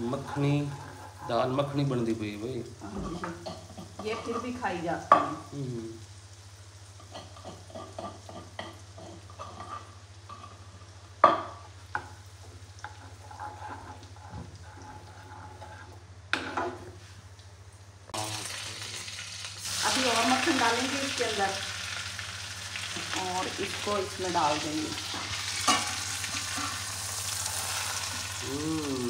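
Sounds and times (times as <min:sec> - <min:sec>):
butter sizzling in a frying pan: 0:00.0 - 0:29.0.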